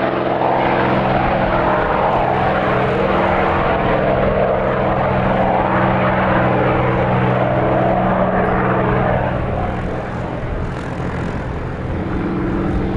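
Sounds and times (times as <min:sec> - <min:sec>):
propeller plane engine droning: 0:00.0 - 0:12.9.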